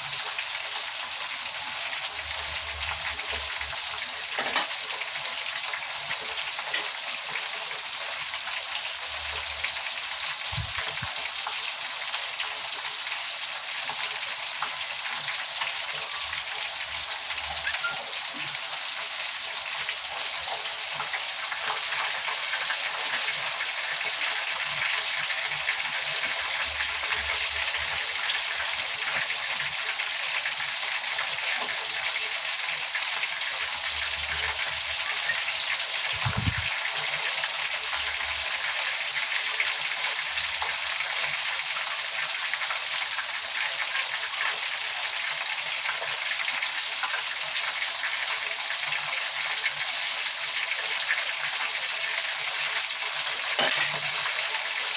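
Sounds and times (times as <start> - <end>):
chicken frying in hot oil: 0.0 - 54.9.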